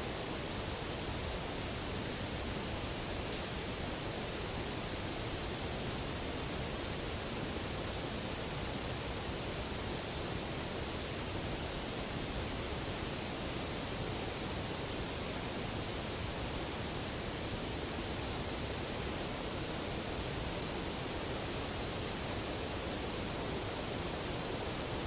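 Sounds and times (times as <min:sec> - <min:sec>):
recording hiss: 0:00.0 - 0:25.0.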